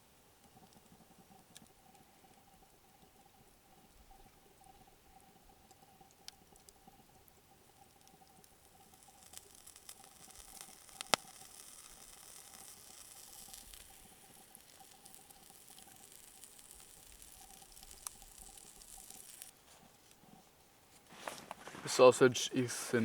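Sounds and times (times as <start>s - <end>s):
fat crackling and popping: 0.0s - 23.0s
sausage sizzling over campfire: 0.0s - 23.0s.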